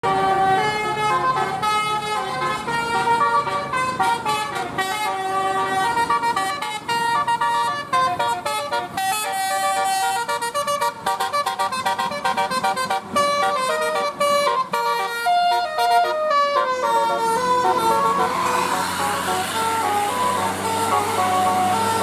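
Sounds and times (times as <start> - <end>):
multi-trumpet bus horn tune: 0.0 - 22.0.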